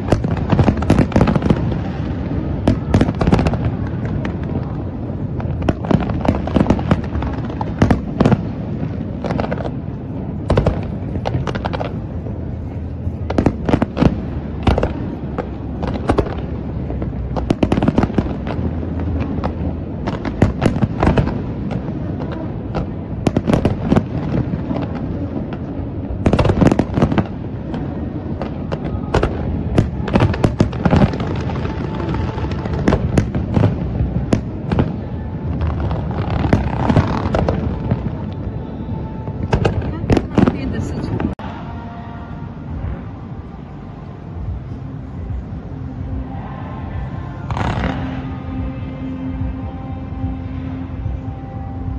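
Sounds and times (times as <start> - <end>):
fireworks bangs: 0.0 - 43.4, 44.3 - 51.9
low rumble: 0.0 - 51.9.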